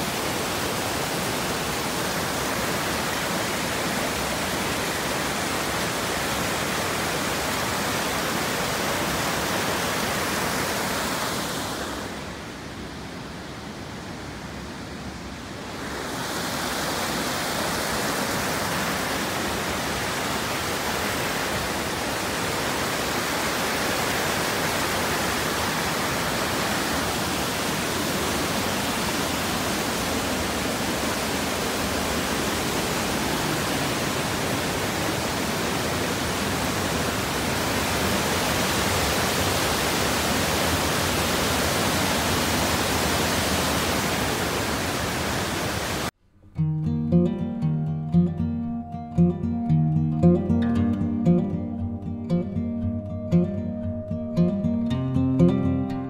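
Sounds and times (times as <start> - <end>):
waterfall rushing over rocks: 0.0 - 46.2.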